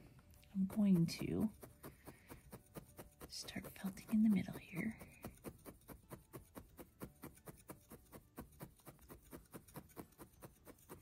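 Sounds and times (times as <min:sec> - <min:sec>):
felting needle pecking into wool: 0:00.0 - 0:11.0.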